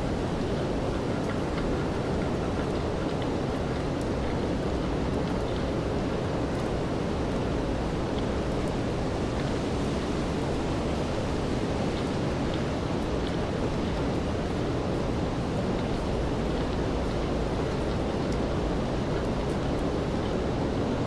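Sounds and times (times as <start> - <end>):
steady rainfall hiss: 0.0 - 21.0.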